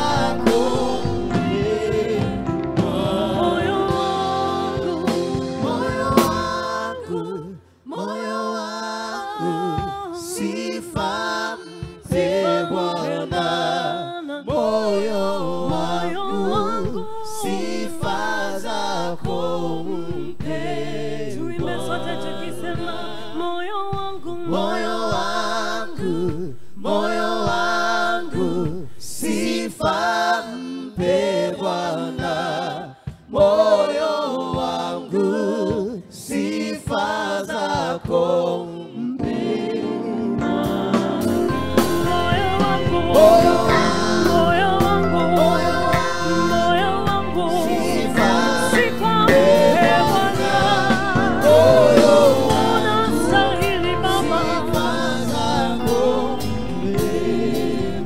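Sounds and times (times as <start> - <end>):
backing singers: 0.0 - 58.0
woman singing gospel: 0.0 - 58.0.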